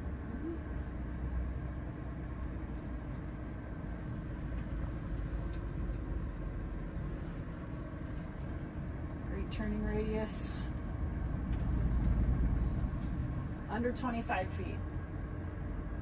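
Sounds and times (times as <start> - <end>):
truck cab low rumble: 0.0 - 16.0.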